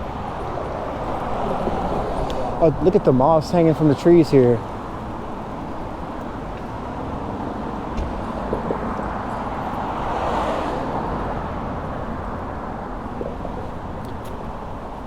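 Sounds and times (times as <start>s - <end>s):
car passing: 0.0s - 15.0s
low wind rumble: 0.0s - 15.0s
street noise: 0.0s - 15.0s.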